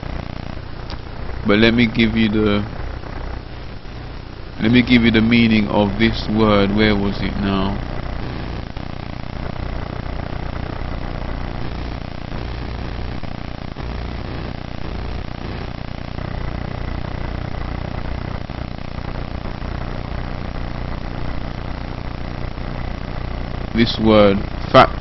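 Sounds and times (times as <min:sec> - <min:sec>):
steady low hum with hiss: 0:00.0 - 0:25.0.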